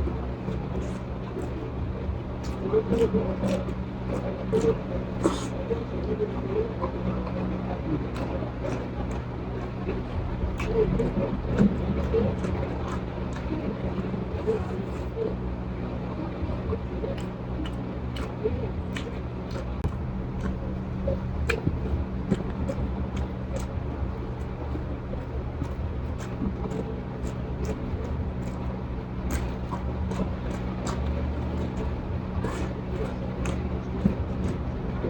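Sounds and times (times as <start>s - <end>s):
steady low hum: 0.0s - 35.0s
person chewing and smacking: 0.1s - 5.8s, 8.0s - 15.2s, 17.1s - 35.0s.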